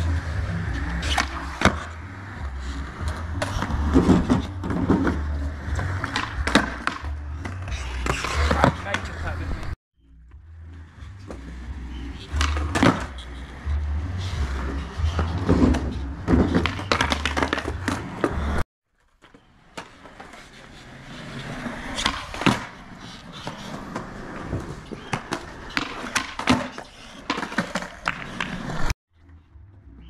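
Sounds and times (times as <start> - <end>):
skateboard wheels rolling on concrete: 0.0 - 29.4.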